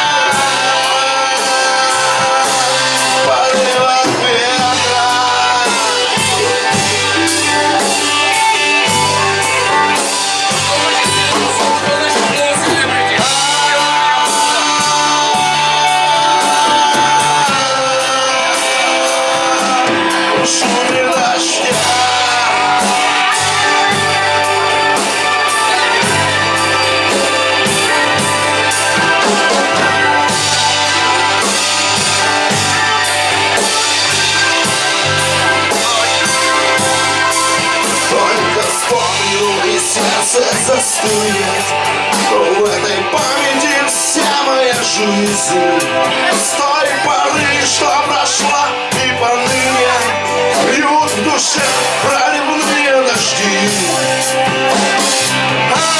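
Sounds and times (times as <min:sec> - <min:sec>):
bass: 0:00.0 - 0:55.9
electric guitar melody: 0:00.0 - 0:55.9
steady drum beat: 0:00.0 - 0:55.9.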